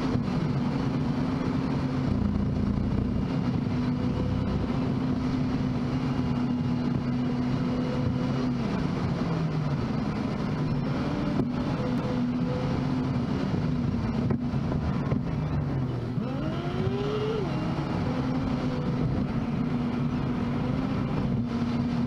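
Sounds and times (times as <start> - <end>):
car engine hum: 0.0 - 22.0
road rumble: 0.0 - 22.0.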